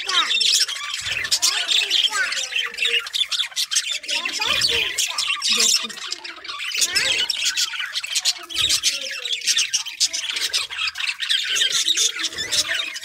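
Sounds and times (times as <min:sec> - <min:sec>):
budgerigars chattering and squawking: 0:00.0 - 0:13.0.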